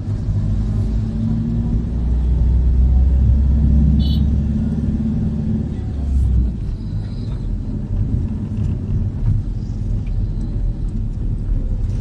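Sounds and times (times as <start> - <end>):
vehicle driving rumble: 0.0 - 12.0.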